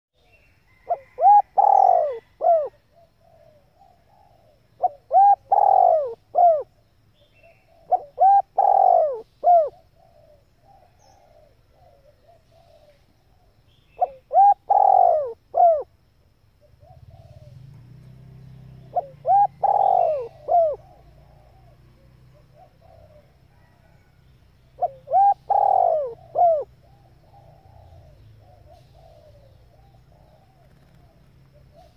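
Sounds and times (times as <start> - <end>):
dove cooing: 0.7 - 16.0, 16.6 - 31.9.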